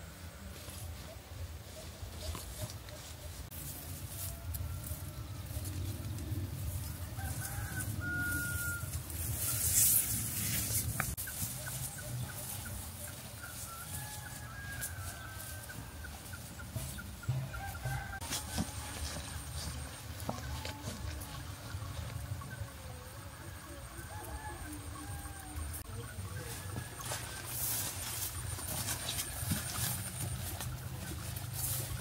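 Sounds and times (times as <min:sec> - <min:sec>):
chickens clucking: 0:00.3 - 0:32.0.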